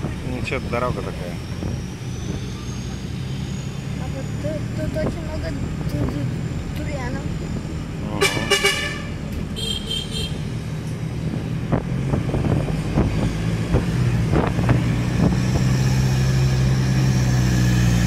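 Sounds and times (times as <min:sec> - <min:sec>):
jeep engine running: 0:00.0 - 0:18.0.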